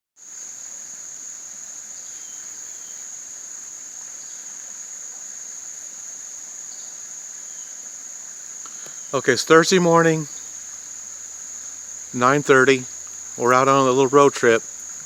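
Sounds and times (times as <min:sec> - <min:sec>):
faint short insect calls: 0:00.2 - 0:15.0
insects trilling: 0:00.2 - 0:15.0.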